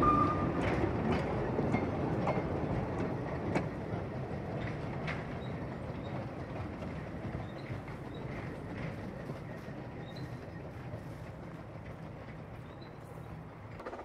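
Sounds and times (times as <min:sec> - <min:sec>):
steam train rolling away: 0:00.0 - 0:14.0
wagons rumbling on track: 0:00.0 - 0:14.0.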